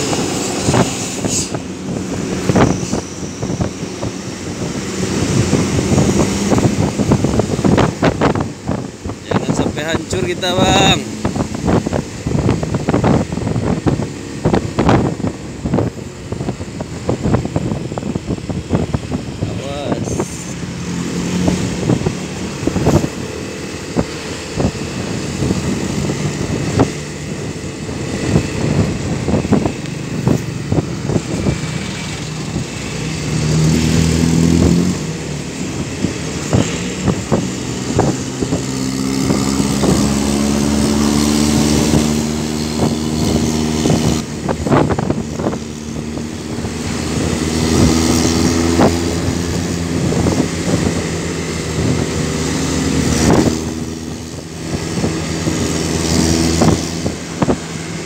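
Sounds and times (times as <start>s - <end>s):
motorcycle engine: 0.0s - 58.0s
wind and road noise: 0.0s - 58.0s.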